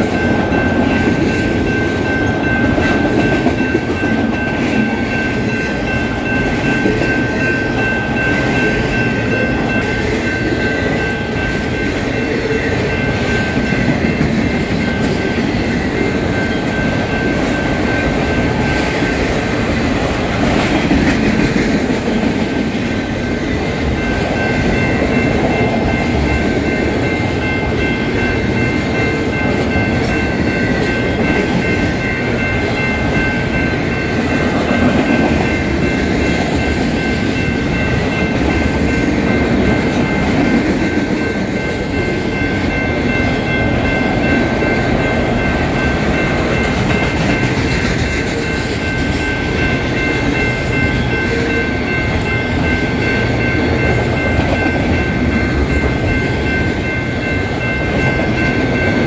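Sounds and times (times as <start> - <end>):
high ringing tones: 0.0 - 59.0
train wheels rumbling on rail: 0.0 - 59.0.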